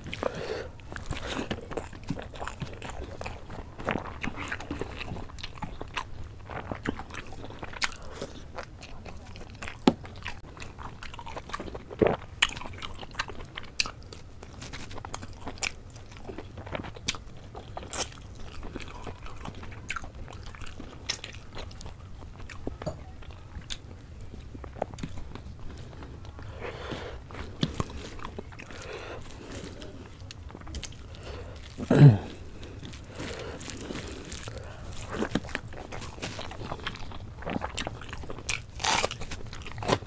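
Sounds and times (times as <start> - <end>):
person chewing with wet mouth sounds: 0.0 - 40.0.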